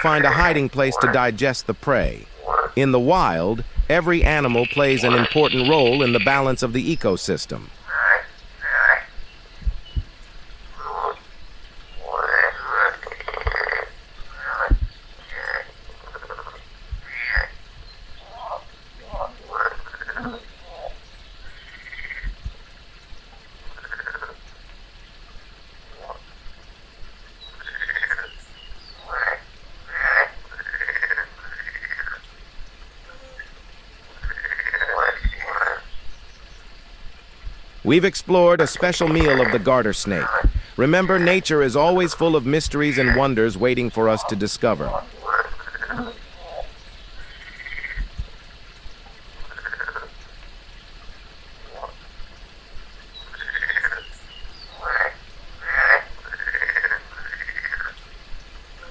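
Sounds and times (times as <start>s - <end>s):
frogs croaking: 0.0s - 58.9s.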